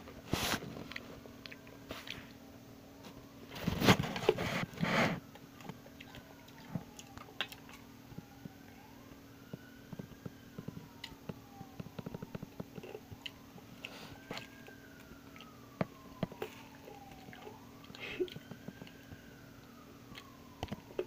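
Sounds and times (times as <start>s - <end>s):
faint siren wailing: 0.0s - 21.0s.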